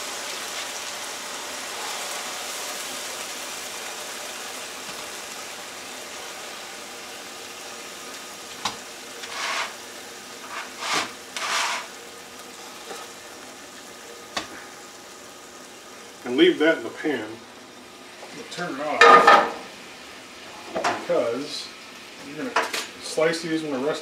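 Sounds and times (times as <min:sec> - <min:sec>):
meat sizzling in a skillet: 0:00.0 - 0:24.0.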